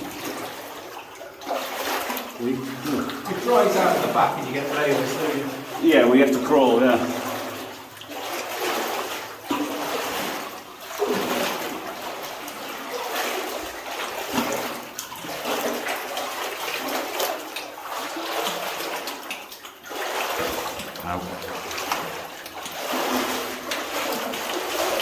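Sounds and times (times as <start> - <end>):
water sloshing and splashing: 0.0 - 25.0.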